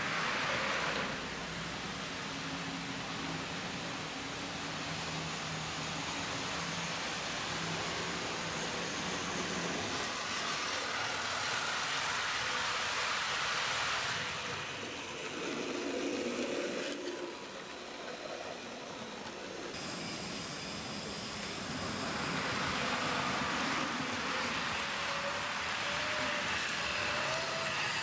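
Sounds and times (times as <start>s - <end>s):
model train motors whirring: 0.0s - 28.0s
model train passing close: 0.0s - 28.0s.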